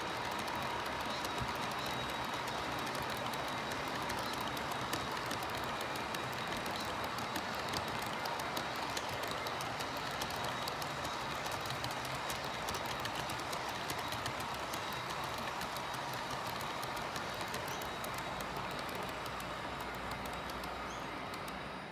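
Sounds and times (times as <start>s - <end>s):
model railway wagons rolling: 0.0s - 21.9s
wheels clicking over rail joints: 0.0s - 21.9s.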